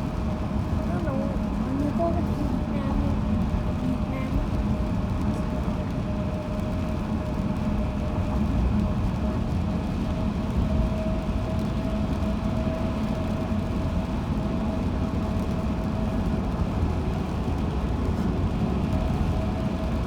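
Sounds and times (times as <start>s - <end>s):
road noise inside moving car: 0.0s - 20.0s.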